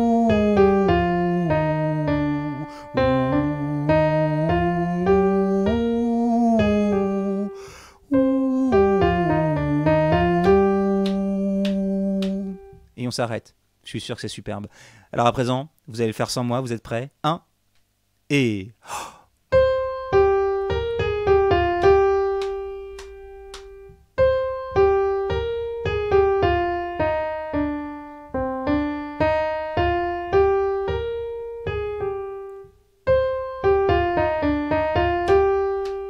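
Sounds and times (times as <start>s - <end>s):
piano keyboard melody: 0.0s - 12.8s, 19.5s - 36.0s.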